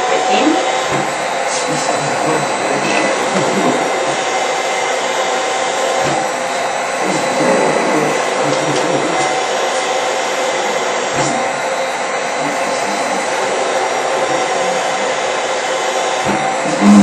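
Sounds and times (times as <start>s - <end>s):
cough assist machine blowing air: 0.0s - 17.0s.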